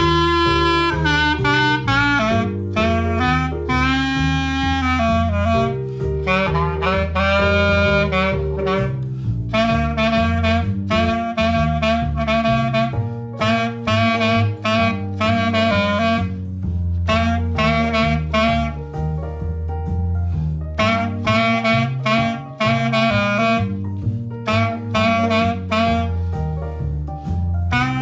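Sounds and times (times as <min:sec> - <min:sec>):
bass line: 0:00.0 - 0:28.0
reed instrument melody: 0:00.0 - 0:28.0.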